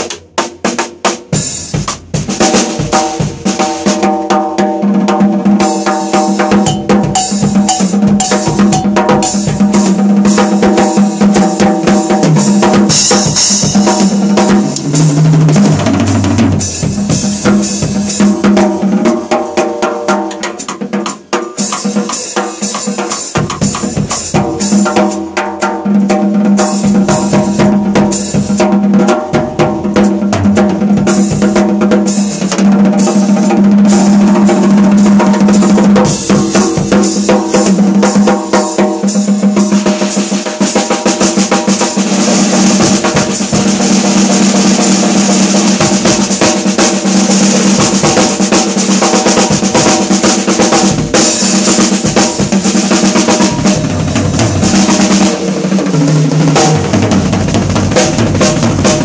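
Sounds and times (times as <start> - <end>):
snare drum played with sticks: 0.0 - 59.0
lower drum notes stepping down: 5.1 - 59.0.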